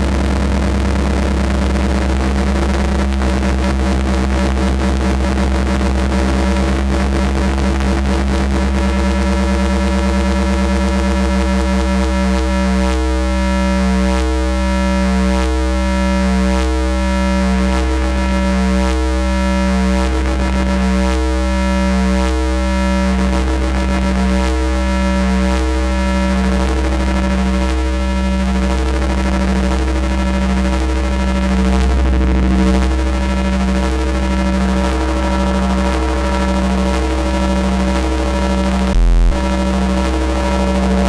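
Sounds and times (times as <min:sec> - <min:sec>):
deep low hum: 0:00.0 - 0:41.0
synthesizer noisy drone: 0:00.0 - 0:41.0.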